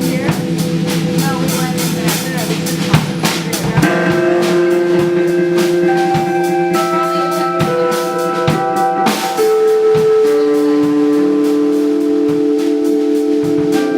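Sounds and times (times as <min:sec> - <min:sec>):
drum kit beat: 0:00.0 - 0:13.9
keyboard chords: 0:00.0 - 0:13.9.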